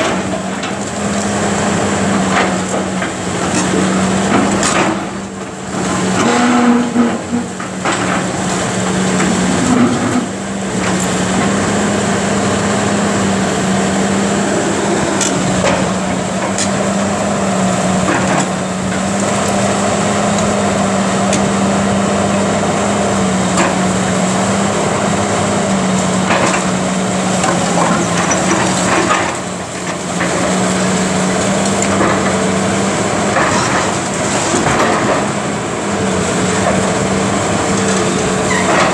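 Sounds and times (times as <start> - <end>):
excavator engine drone: 0.0 - 38.9.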